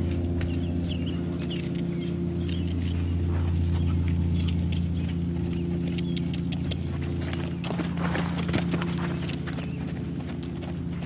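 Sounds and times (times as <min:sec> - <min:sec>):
hoofbeats on sand: 0:00.0 - 0:11.0
steady low hum: 0:00.0 - 0:11.0.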